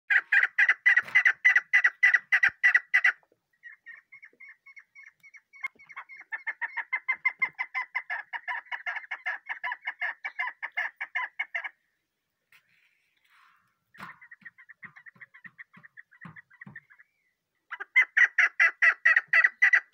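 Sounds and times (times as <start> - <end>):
partridge calling sharp notes: 0.1 - 11.8, 13.9 - 19.9.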